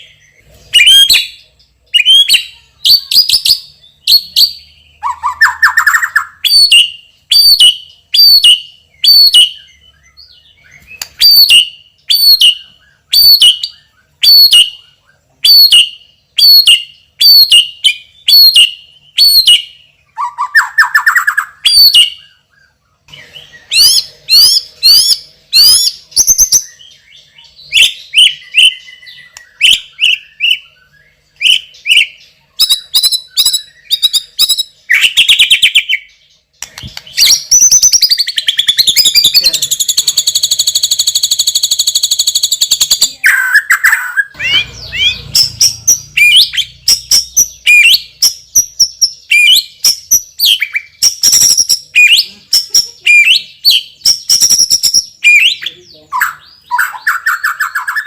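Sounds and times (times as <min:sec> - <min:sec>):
songbird whistling and trilling: 0:00.0 - 0:58.0.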